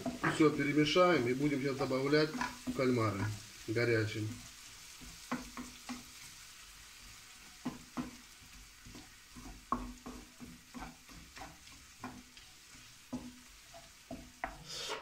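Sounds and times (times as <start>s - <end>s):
spatula scraping frying pan: 0.0s - 3.6s, 4.4s - 15.0s
oil sizzling: 0.0s - 15.0s.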